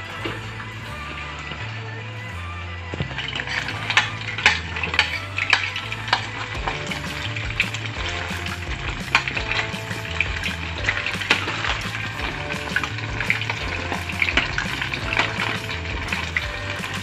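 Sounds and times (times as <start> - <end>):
chicken deep-frying in oil: 3.1 - 17.0.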